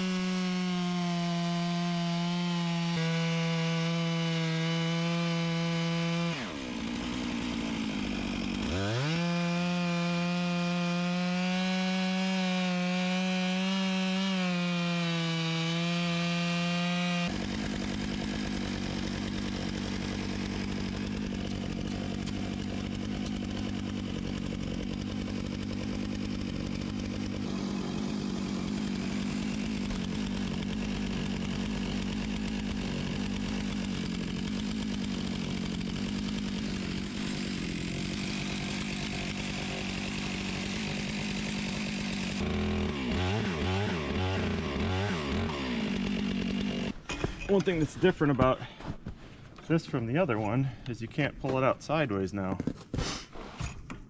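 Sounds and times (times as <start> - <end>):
chainsaw revving at full throttle: 0.0 - 47.0.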